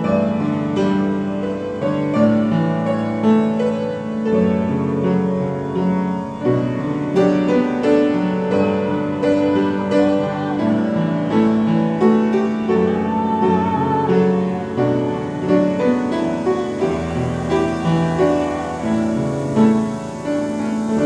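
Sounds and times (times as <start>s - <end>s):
piano playing: 0.0s - 21.0s.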